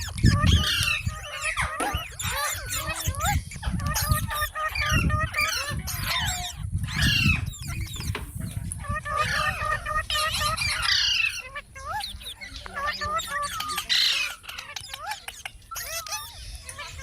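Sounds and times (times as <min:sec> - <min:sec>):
parrots chattering and squawking: 0:00.0 - 0:17.0.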